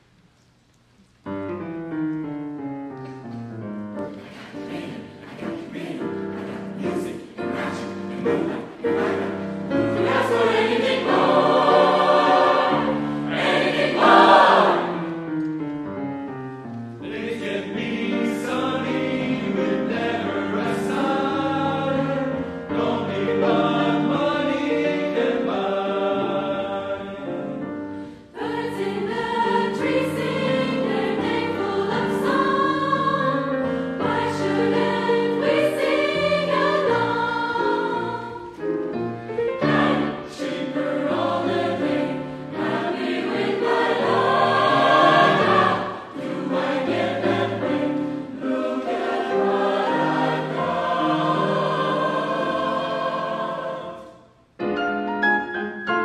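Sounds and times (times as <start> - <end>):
grand piano accompaniment: 0.0 - 56.0
mixed choir singing: 4.1 - 15.2, 17.0 - 38.7, 39.4 - 54.3.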